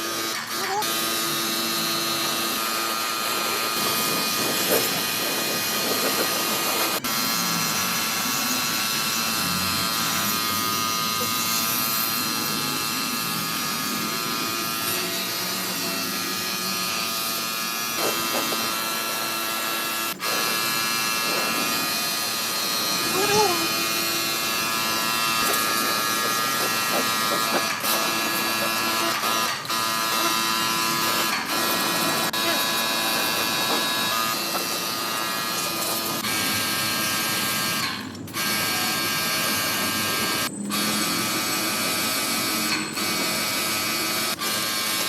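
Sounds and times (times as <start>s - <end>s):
electric motor whining: 0.0s - 45.0s.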